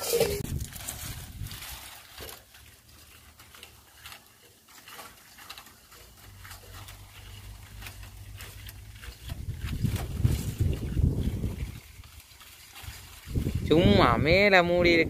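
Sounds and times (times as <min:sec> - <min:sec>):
rustling in dry leaves: 0:00.0 - 0:15.0.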